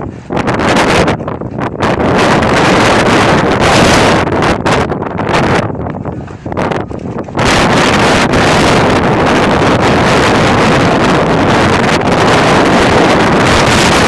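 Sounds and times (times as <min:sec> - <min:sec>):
strong wind blasting microphone: 0:00.0 - 0:14.0.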